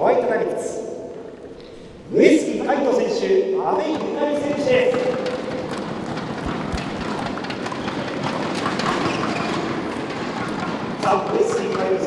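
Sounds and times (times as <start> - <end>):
indoor hall background noise: 0.0 - 12.0.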